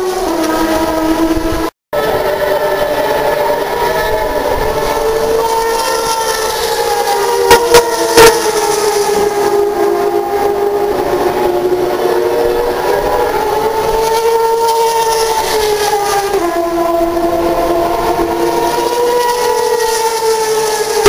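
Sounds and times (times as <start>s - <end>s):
race car engines high revs: 0.0s - 21.0s.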